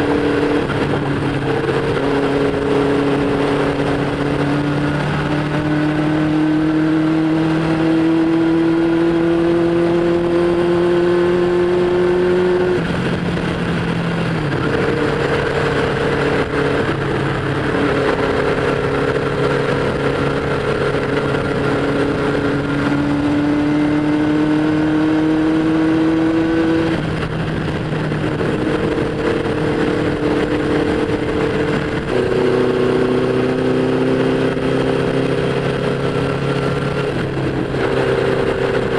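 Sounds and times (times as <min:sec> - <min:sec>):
motorcycle engine at road speed: 0:00.0 - 0:38.9
wind rush: 0:00.0 - 0:38.9.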